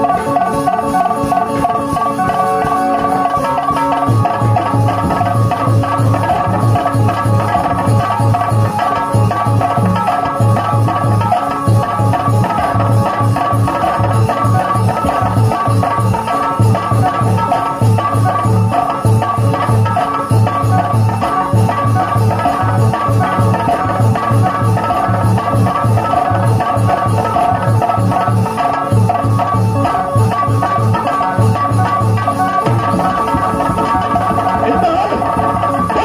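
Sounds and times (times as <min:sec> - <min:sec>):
hand drum beat: 0:00.0 - 0:36.0.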